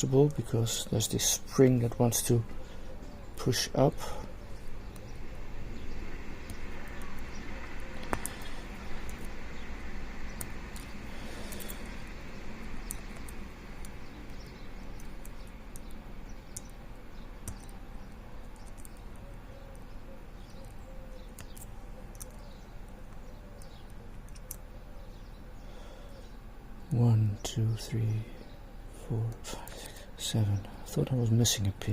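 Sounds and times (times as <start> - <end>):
steady background hiss: 0.0 - 31.9.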